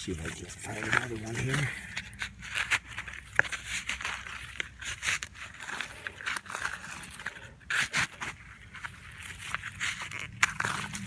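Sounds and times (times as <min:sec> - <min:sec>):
soil rustling and scraping: 0:00.0 - 0:11.0.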